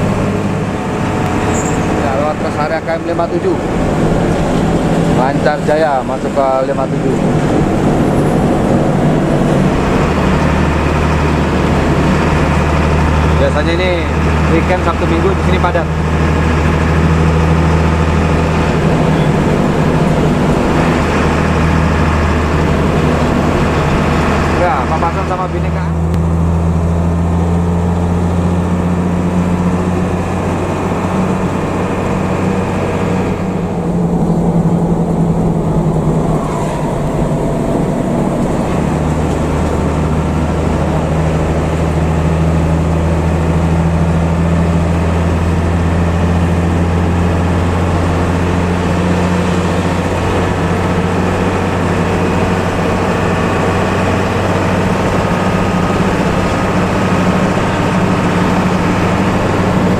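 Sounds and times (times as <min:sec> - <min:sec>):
bus engine low drone: 0:00.0 - 0:59.9.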